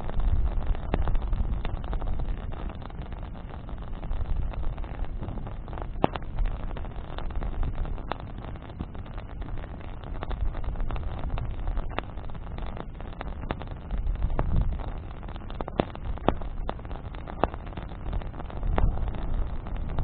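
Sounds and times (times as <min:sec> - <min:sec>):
bonfire crackling and popping: 0:00.0 - 0:20.0
wind rumble on microphone: 0:00.0 - 0:20.0.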